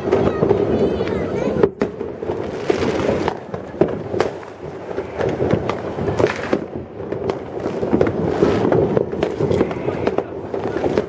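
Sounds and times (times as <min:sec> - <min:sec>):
din of explosions: 0:00.0 - 0:11.0
fireworks bangs and crackles: 0:00.0 - 0:11.0.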